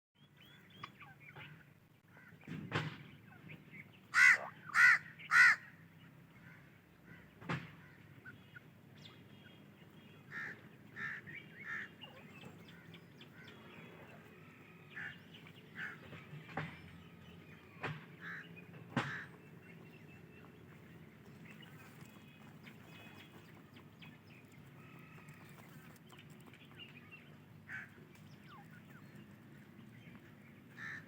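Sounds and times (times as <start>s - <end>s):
bird chicks calling: 3.1s - 5.7s, 7.8s - 31.0s.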